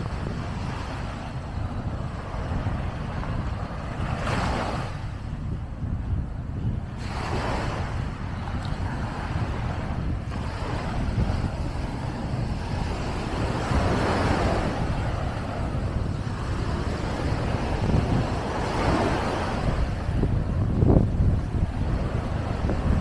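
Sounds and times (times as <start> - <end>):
sea waves washing on beach: 0.0 - 23.0
wind rumble on microphone: 0.0 - 23.0.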